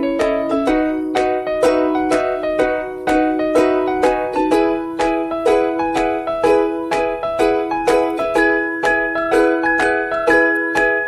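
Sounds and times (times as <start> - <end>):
plucked ukulele-like music: 0.0 - 11.0.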